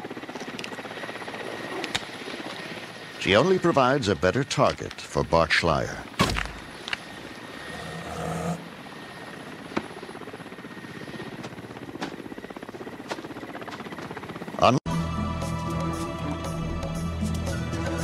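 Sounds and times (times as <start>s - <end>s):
helicopter rotor chopping: 0.0s - 14.8s.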